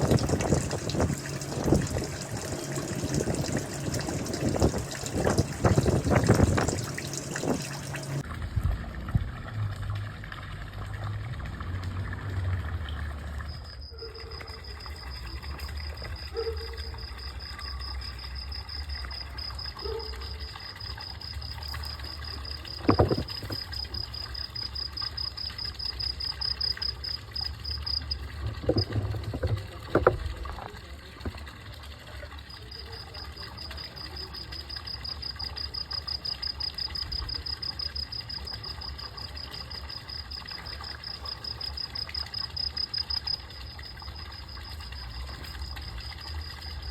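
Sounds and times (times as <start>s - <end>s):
cricket trilling: 0.0s - 8.2s, 12.8s - 31.4s, 32.4s - 46.9s.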